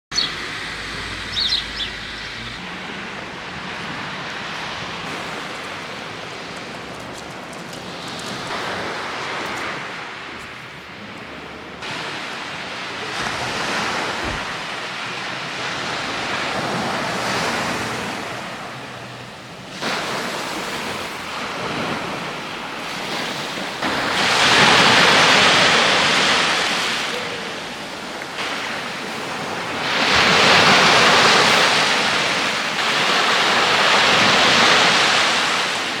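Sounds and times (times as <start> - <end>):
sea waves breaking on shore: 0.1 - 36.0.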